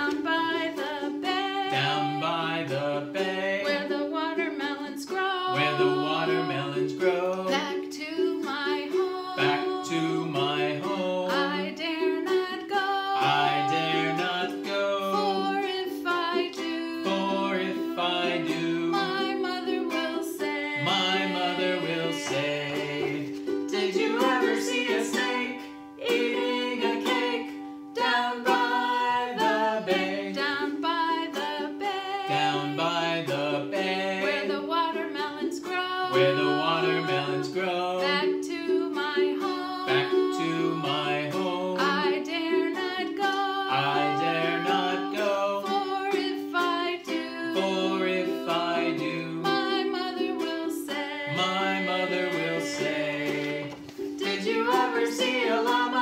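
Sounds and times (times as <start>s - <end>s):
ukulele strumming chords: 0.0s - 56.0s
voices singing: 0.0s - 56.0s.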